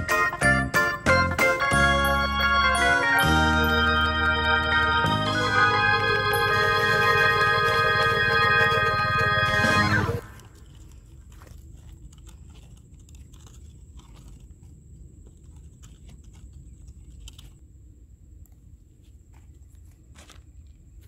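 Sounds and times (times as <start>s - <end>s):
wheels crunching on dirt: 0.0s - 17.6s, 19.0s - 21.0s.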